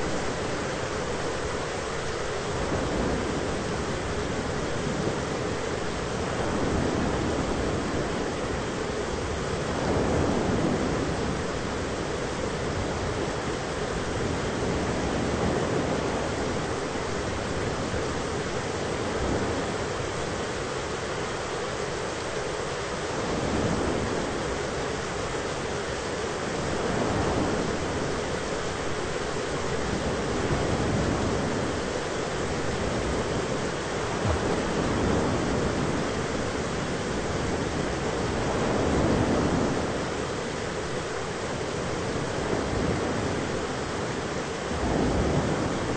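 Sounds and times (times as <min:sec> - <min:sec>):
rain-like noise: 0:00.0 - 0:45.9.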